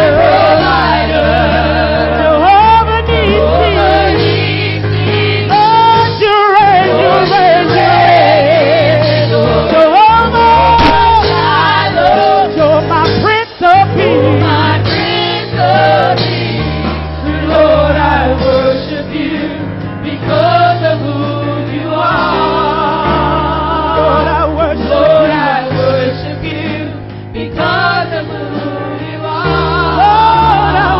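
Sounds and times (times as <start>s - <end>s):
band playing: 0.0s - 30.9s
gospel choir singing: 0.0s - 30.9s.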